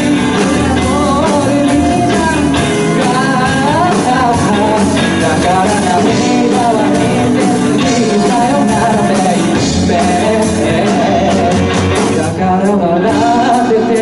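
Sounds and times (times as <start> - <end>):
drums: 0.0 - 14.0
guitar: 0.0 - 14.0
keyboard: 0.0 - 14.0
person singing: 0.0 - 14.0.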